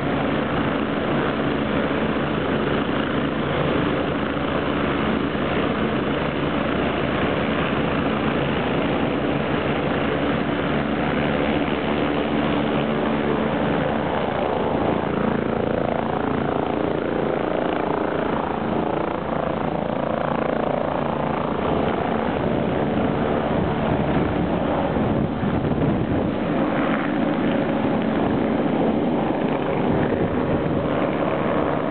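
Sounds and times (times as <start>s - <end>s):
helicopter engine whine: 0.0s - 31.9s.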